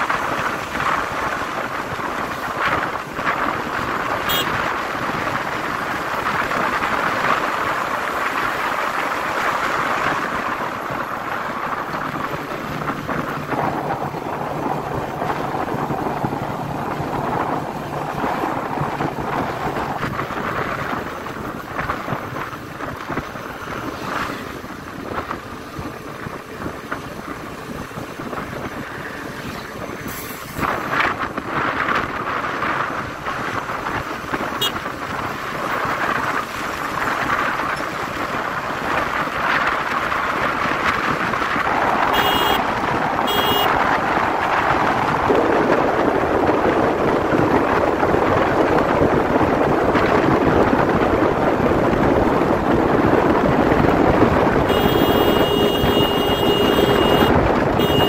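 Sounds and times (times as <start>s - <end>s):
motorcycle engine hum: 0.0s - 58.0s
passing traffic: 0.0s - 58.0s
wind rushing over microphone: 0.0s - 58.0s.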